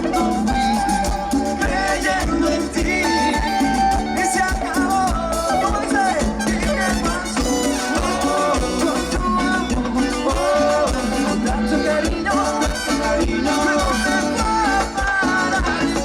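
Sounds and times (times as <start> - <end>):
latin dance band playing: 0.0 - 16.0
maracas: 0.0 - 16.0.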